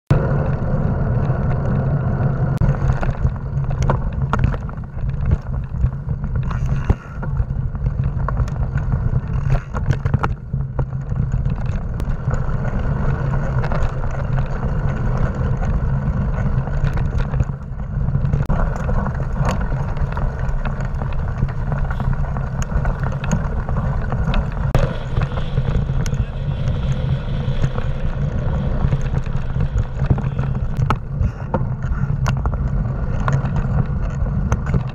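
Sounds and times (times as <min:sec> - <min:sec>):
bike rattling over bumps: 0:00.1 - 0:34.9
tyre rumble: 0:00.1 - 0:34.9
wind buffeting: 0:00.1 - 0:34.9.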